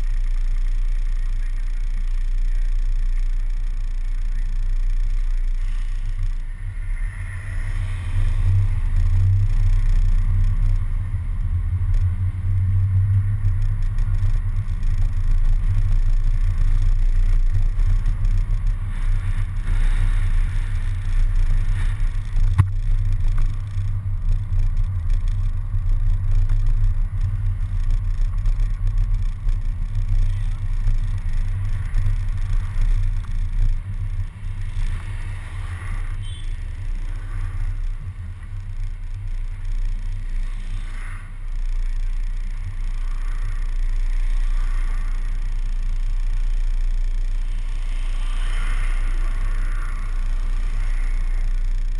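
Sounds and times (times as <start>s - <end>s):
bus engine and road rumble: 0.0s - 51.9s.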